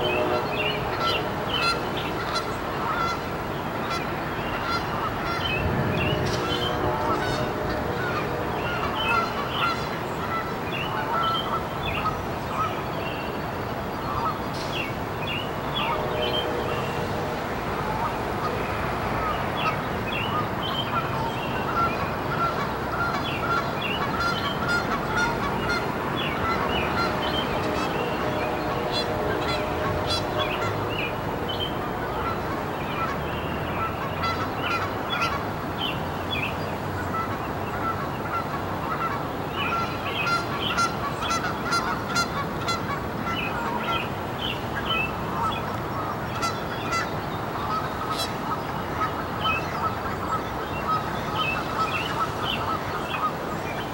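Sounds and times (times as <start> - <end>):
birds calling and chirping: 0.0 - 53.9.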